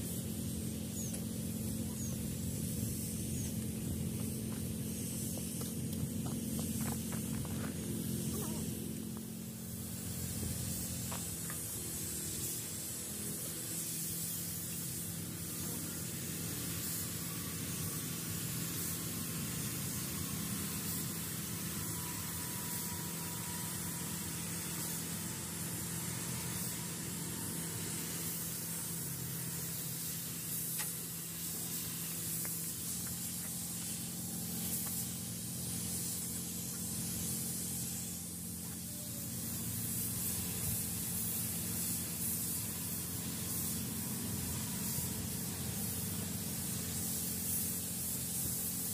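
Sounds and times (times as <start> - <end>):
steady low hum: 0.0 - 48.6
paint spray gun hissing: 0.0 - 48.9.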